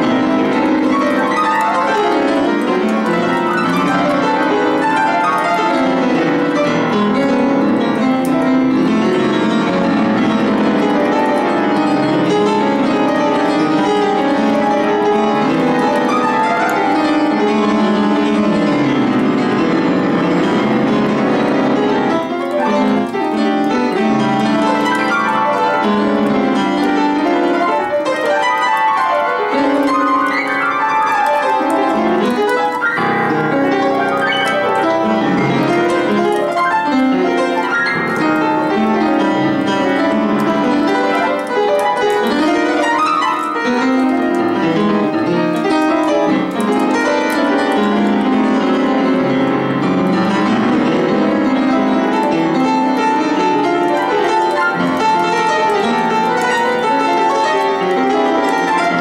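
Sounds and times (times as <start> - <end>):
out-of-tune piano improvisation: 0.0 - 59.0.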